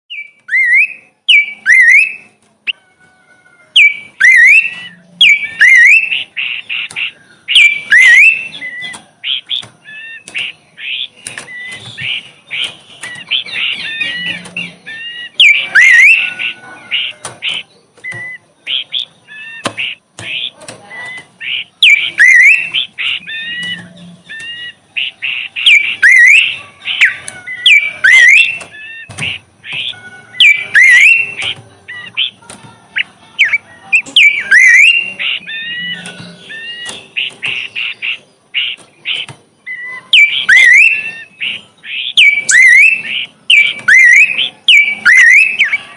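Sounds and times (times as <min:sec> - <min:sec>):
songbird singing: 0:00.1 - 0:45.9.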